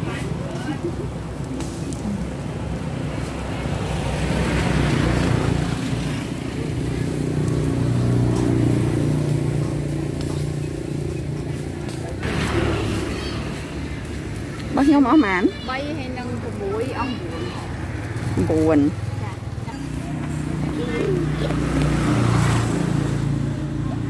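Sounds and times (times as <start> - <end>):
traffic engine hum: 0.0 - 24.0.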